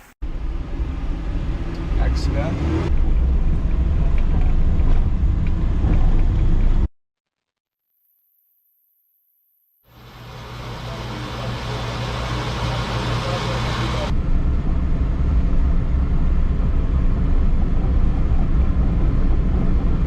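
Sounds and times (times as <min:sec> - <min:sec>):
heavy low rumble: 0:00.0 - 0:06.9, 0:10.0 - 0:20.0
vehicle engine and road noise: 0:00.0 - 0:06.9, 0:09.9 - 0:20.0.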